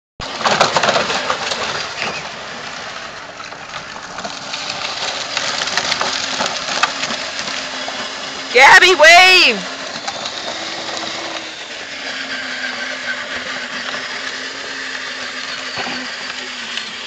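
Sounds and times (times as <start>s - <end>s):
plastic wheels crunching on gravel: 0.2s - 17.0s.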